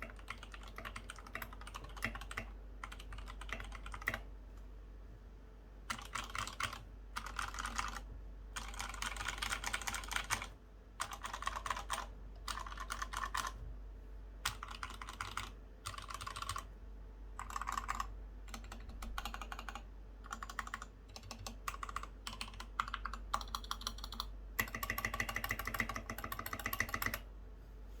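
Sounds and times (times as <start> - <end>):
mechanical keyboard typing: 0.0 - 4.3, 5.9 - 13.6, 14.4 - 16.7, 17.4 - 27.2.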